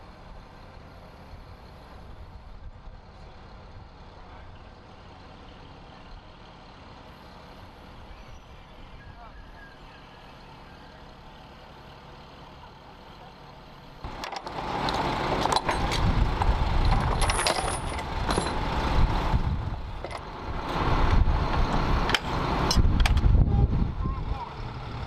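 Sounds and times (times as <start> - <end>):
heavy vehicle machinery rumble: 0.0 - 25.0.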